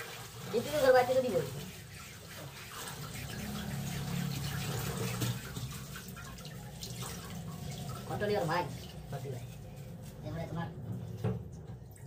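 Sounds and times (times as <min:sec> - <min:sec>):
water splashing in metal sink: 0:00.0 - 0:10.1.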